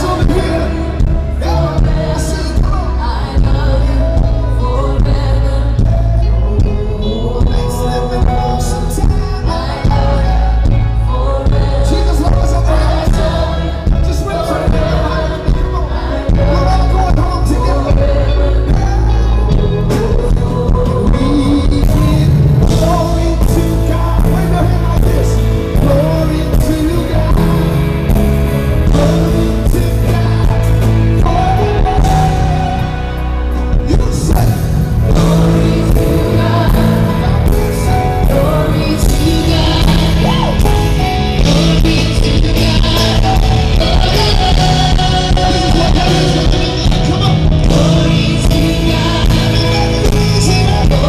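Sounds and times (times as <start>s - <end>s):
women backing singers: 0.0s - 28.2s, 28.8s - 51.0s
heavy bass: 0.0s - 51.0s
live band music: 0.0s - 51.0s
man singing lead: 0.0s - 51.0s.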